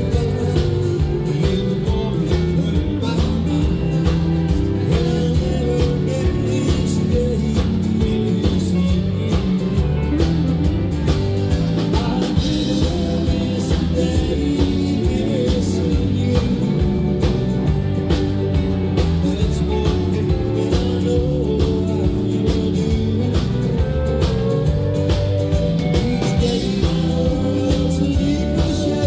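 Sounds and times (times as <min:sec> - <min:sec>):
man singing: 0:00.0 - 0:10.8, 0:11.6 - 0:29.0
country band playing: 0:00.0 - 0:29.0.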